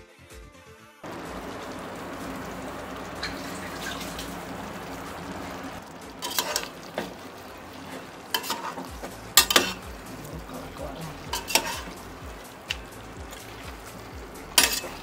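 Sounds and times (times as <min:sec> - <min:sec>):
chicken sizzling in a pan: 0:01.0 - 0:15.0.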